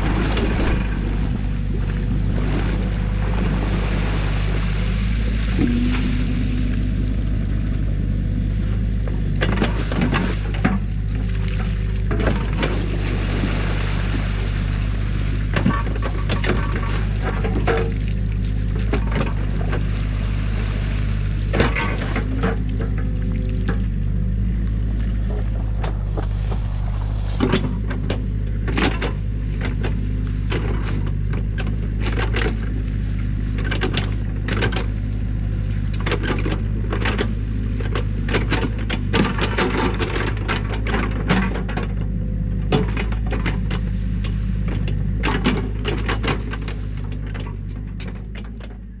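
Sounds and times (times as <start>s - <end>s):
diesel engine running: 0.0s - 49.0s
excavator clanking: 0.0s - 49.0s.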